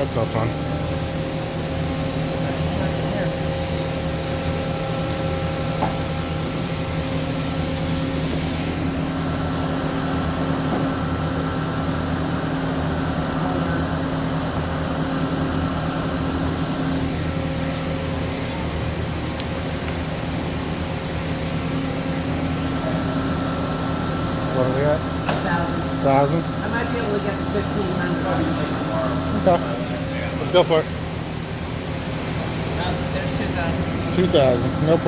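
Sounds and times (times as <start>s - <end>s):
high machine hiss: 0.0s - 35.0s
machine spindle humming: 0.0s - 35.0s.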